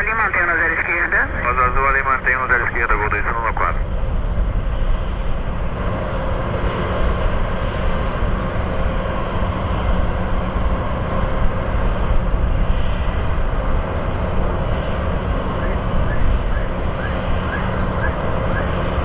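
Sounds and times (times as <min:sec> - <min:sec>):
distant jet engines rumbling: 0:00.0 - 0:19.0.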